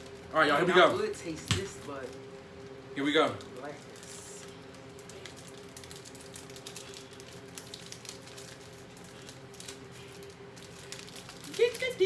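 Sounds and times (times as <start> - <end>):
chip packets crinkling: 0.0 - 12.0
steady low hum: 0.0 - 12.0.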